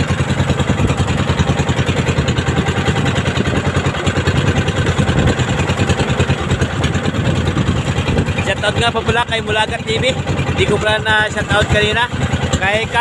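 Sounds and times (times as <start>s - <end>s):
small boat engine puttering: 0.0s - 13.0s.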